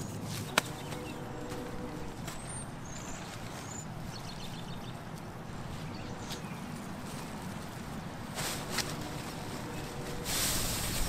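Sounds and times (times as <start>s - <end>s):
tent fabric rustling: 0.0s - 4.3s, 5.6s - 11.0s.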